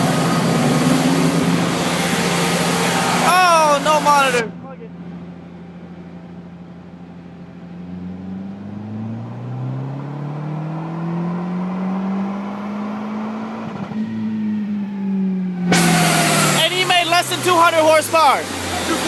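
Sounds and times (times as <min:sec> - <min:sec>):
car engine revving on dyno: 0:00.0 - 0:04.5, 0:07.7 - 0:19.0.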